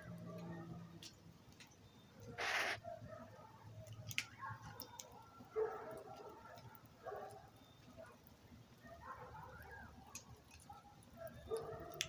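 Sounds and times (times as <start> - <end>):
campfire crackling: 0.0 - 2.8, 3.8 - 12.0.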